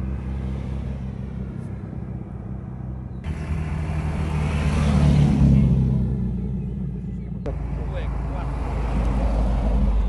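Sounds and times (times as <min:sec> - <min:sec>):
car engines running at low revs: 0:00.0 - 0:10.0.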